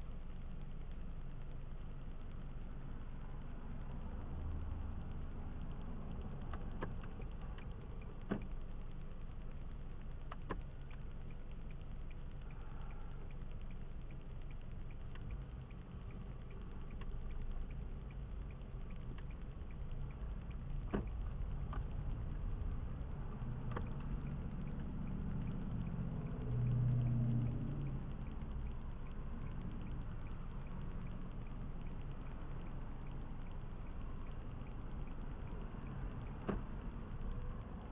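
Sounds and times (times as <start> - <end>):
engine and tyre rumble: 0.0 - 37.9.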